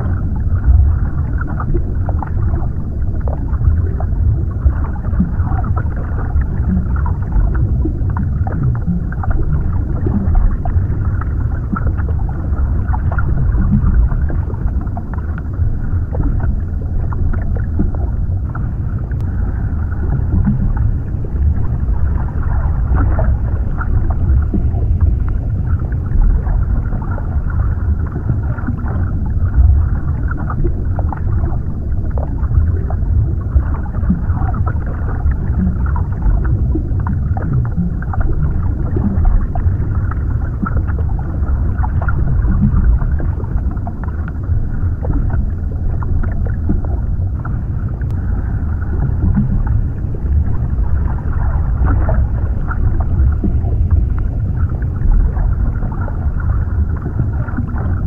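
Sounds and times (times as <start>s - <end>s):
small gurgles and crackles: 0.0s - 58.0s
underwater rumbling wash: 0.0s - 58.0s.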